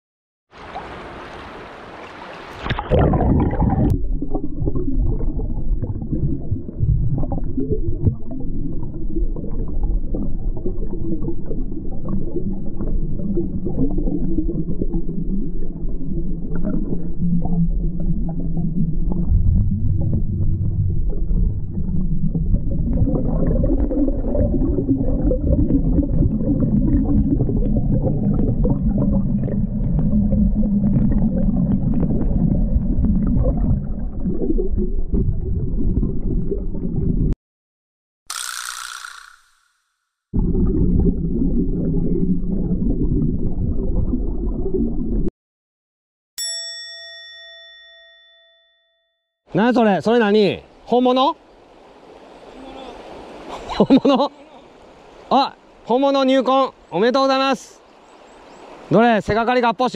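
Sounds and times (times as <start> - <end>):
muffled underwater river rushing: 0.5 - 37.4, 40.4 - 45.3, 49.6 - 59.9.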